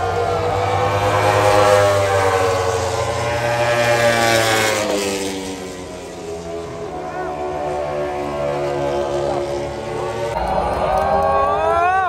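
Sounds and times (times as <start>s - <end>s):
racing motorcycle engines: 0.0s - 12.0s.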